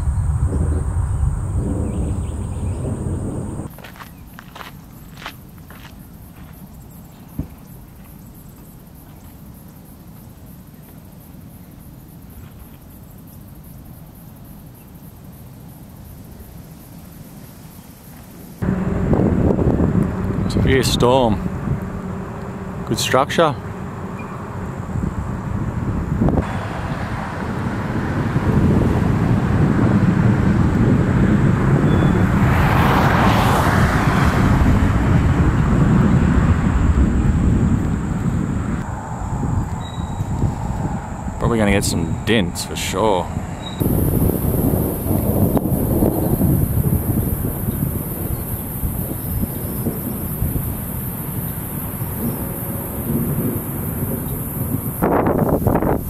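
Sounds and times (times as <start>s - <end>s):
wind rumbling: 0.0s - 17.0s, 18.0s - 56.0s.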